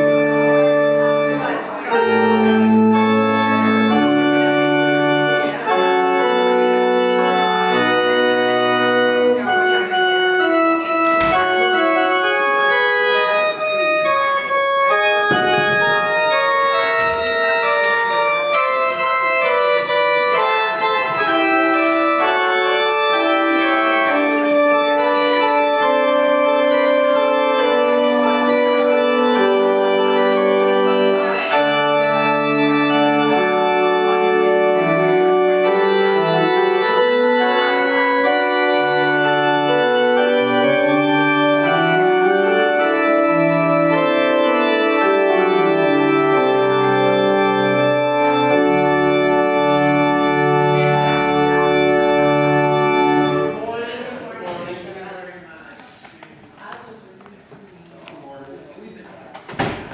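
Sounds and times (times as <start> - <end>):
church organ chords: 0.0 - 54.4.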